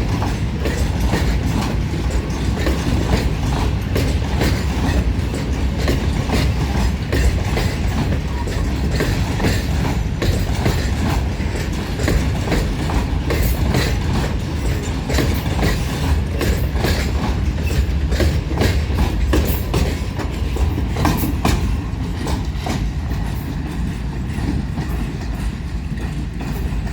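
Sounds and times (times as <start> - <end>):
train rumbling past: 0.0 - 26.9
wheels clicking over rail joints: 0.0 - 26.9.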